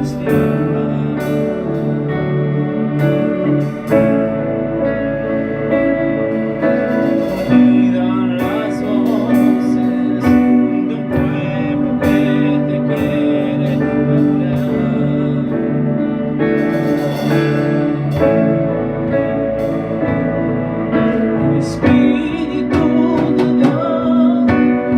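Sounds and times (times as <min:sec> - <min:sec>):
guitar playing: 0:00.0 - 0:24.9.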